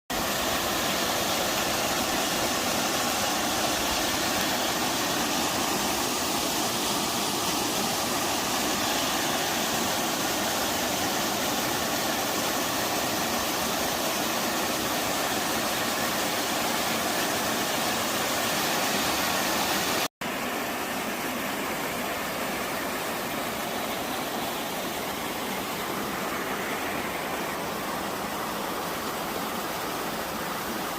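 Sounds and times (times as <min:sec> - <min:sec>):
waterfall rushing: 0:00.1 - 0:30.9.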